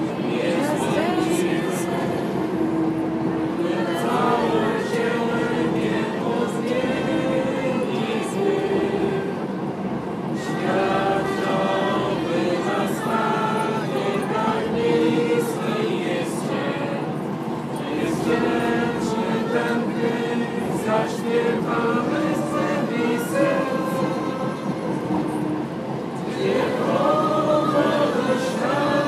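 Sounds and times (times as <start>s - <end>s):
bus rumbling: 0.0s - 29.0s
people singing together: 0.0s - 29.0s.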